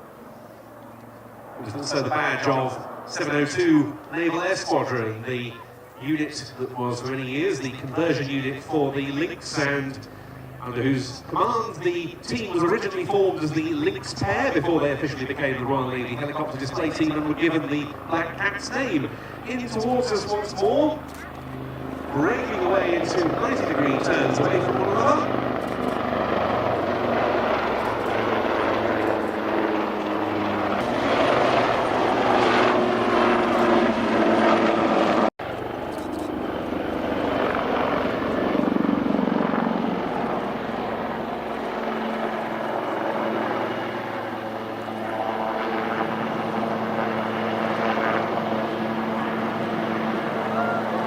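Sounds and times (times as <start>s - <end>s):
helicopter rotors whirring: 0.0s - 51.0s.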